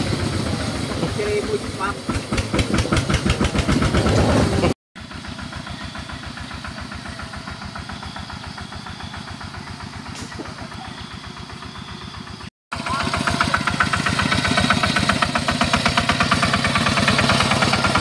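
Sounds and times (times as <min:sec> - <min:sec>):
diesel engine thumping: 0:00.0 - 0:18.0.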